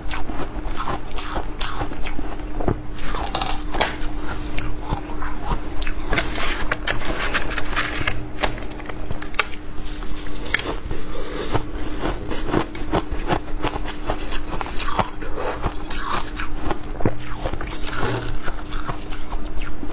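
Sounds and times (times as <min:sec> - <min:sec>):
ice being crunched and chewed: 0:00.0 - 0:08.2, 0:09.0 - 0:19.9
faint steady hum: 0:00.0 - 0:19.9.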